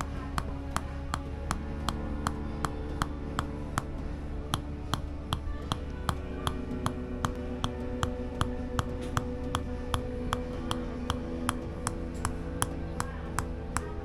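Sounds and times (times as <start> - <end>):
soft background music: 0.0 - 14.0
wooden mallet knocking on wedge: 0.0 - 14.0.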